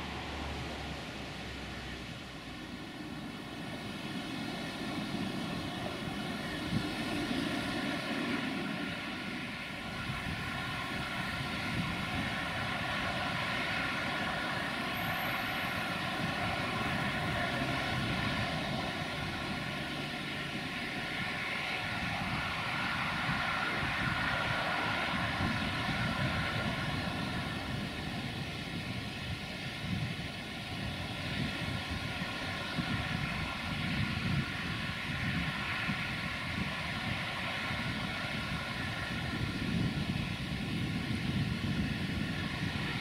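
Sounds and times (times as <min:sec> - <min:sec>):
wheels rumbling on rail: 0:00.0 - 0:43.0.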